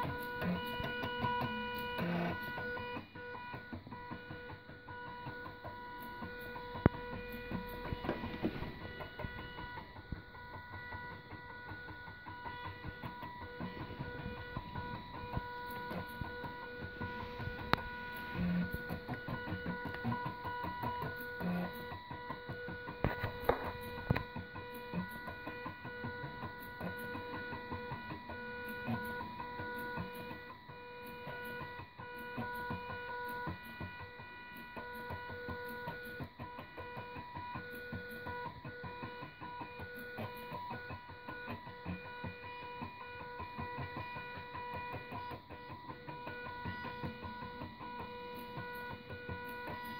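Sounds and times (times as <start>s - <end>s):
stepper motors whining: 0.0s - 49.9s.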